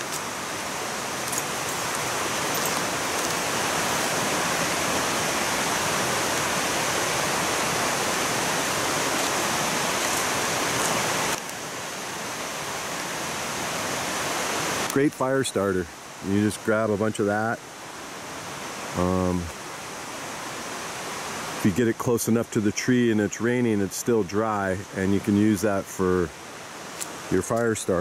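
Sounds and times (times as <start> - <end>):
fast-flowing creek rushing: 0.0 - 28.0.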